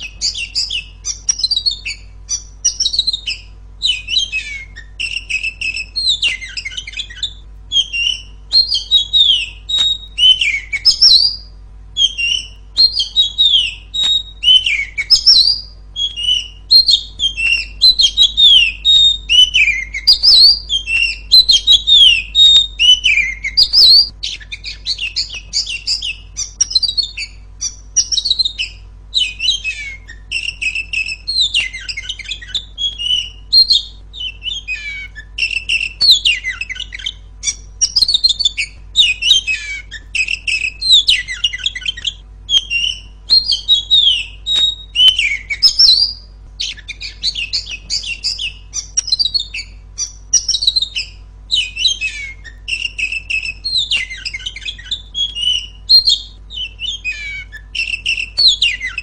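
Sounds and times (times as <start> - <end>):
magpie-robin singing: 0.0 - 59.0.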